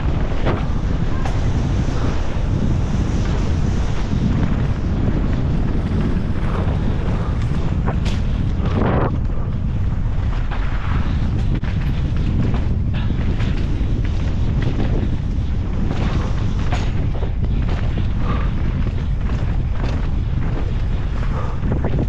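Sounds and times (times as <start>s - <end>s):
bike tyres clattering over ground: 0.0s - 22.0s
wind buffeting microphone: 0.0s - 22.0s.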